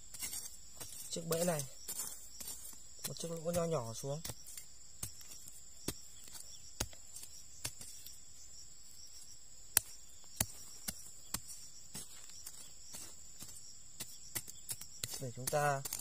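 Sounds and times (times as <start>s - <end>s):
insects chirring: 0.0s - 16.0s
machete striking gravelly soil: 0.0s - 16.0s.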